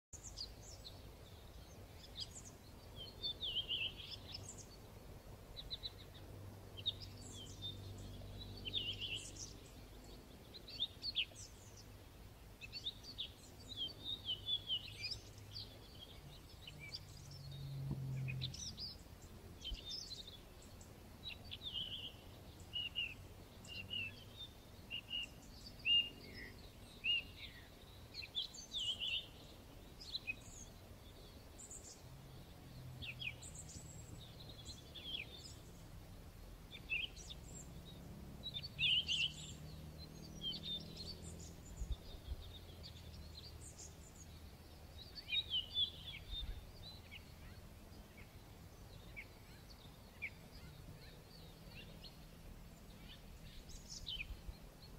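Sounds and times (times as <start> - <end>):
faint background hiss: 0.2 - 54.9
small birds singing and chirping: 0.2 - 54.9.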